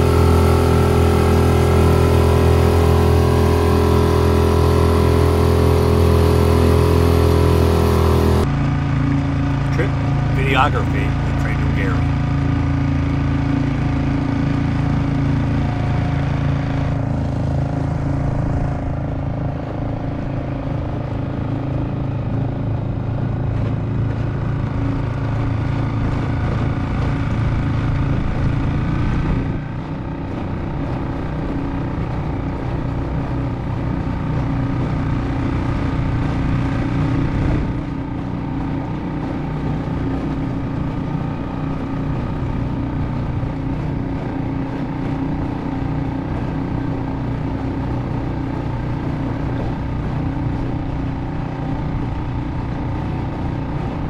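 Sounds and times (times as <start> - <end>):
outboard motor running: 0.0 - 54.0
water wash behind boat: 0.0 - 54.0.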